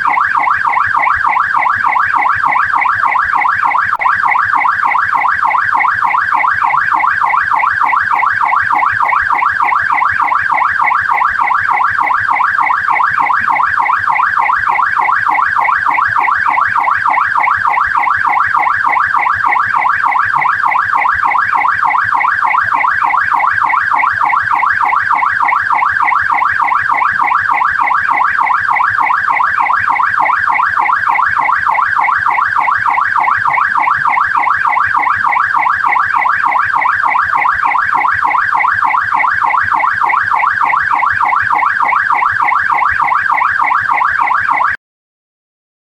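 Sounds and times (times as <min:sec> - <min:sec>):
police siren yelp: 0:00.0 - 0:44.8.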